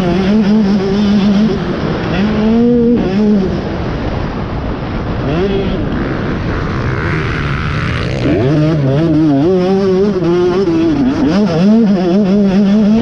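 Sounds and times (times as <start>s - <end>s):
motocross engine revving: 0.0s - 13.0s
rushing wind noise: 0.0s - 13.0s.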